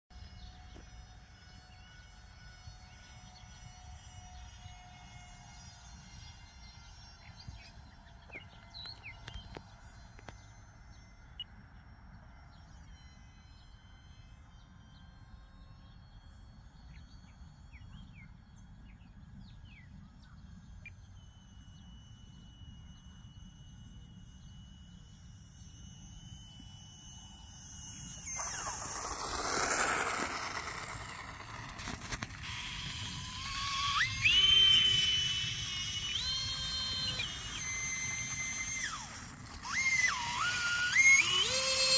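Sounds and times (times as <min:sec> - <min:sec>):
model jet electric fans whining: 0:00.1 - 0:41.9.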